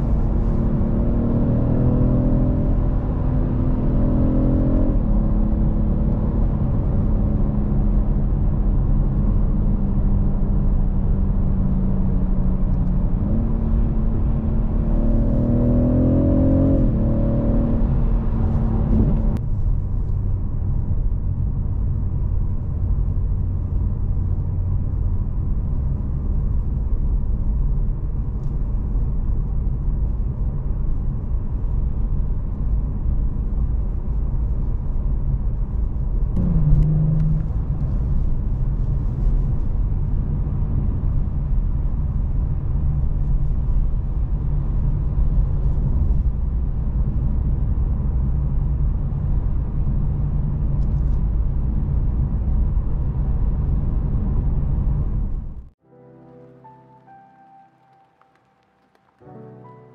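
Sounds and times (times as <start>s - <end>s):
car engine accelerating: 0.0s - 55.7s
tyre and road rumble: 4.3s - 55.7s.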